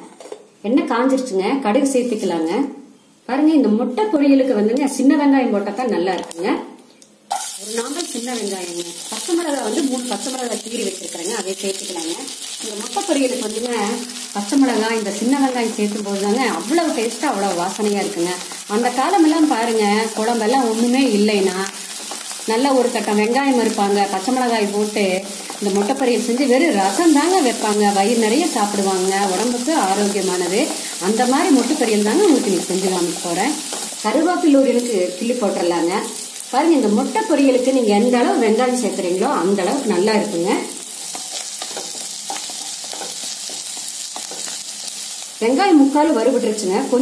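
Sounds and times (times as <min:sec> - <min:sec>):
food sizzling in oil: 0:07.3 - 0:47.0.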